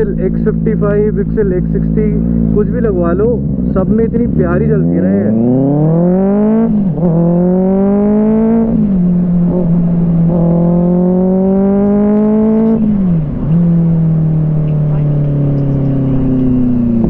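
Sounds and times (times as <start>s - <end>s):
motorcycle engine shifting gears: 0.0s - 17.0s.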